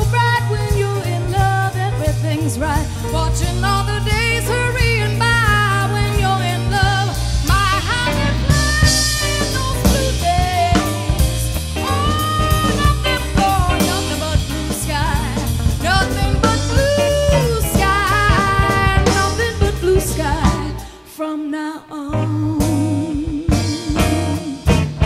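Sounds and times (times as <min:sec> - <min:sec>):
drum kit beat: 0:00.0 - 0:21.0, 0:22.1 - 0:25.0.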